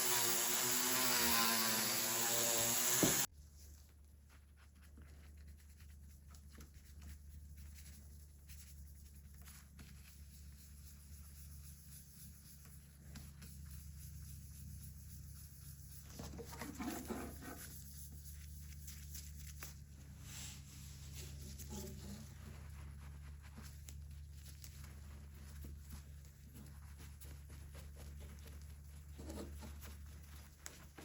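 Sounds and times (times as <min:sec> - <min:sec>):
hand scratching and rubbing metal: 0:04.3 - 0:31.0.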